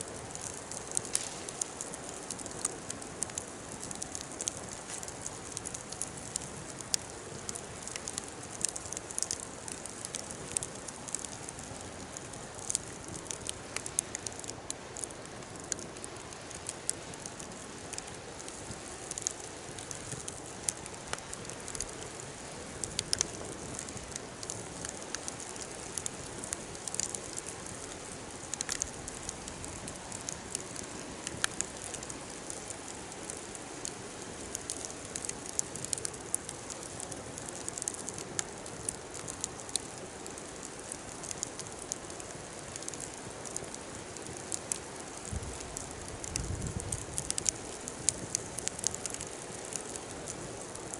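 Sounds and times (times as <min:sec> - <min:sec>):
fire hissing: 0:00.0 - 0:50.9
wood fire crackling and popping: 0:00.0 - 0:50.9.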